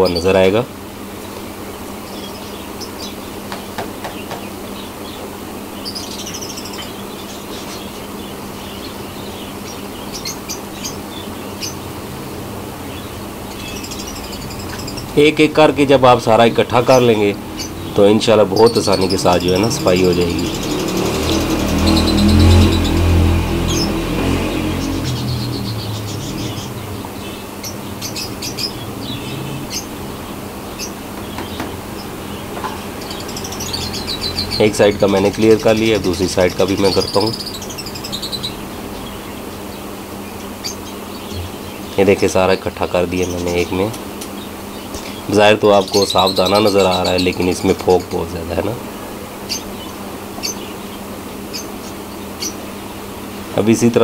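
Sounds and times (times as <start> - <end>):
budgerigars chirping and chattering: 0.0 - 0.7, 1.3 - 54.0
low steady hum: 0.0 - 54.0.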